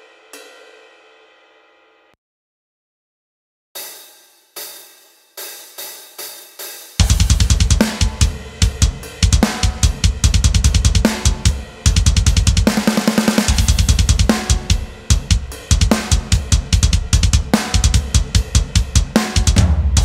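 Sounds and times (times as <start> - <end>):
metal drum kit playing: 0.0 - 0.8, 3.8 - 20.0.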